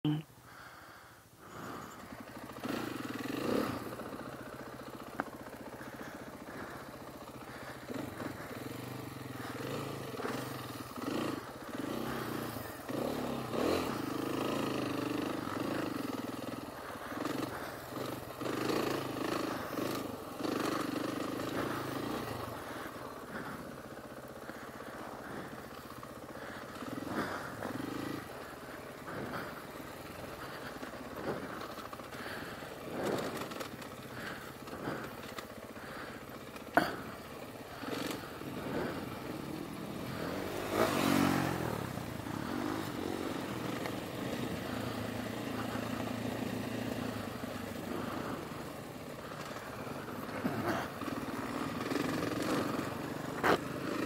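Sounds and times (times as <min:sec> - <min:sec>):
bike rattling over bumps: 0:01.4 - 0:54.0
dirt bike engine revving: 0:01.4 - 0:54.0.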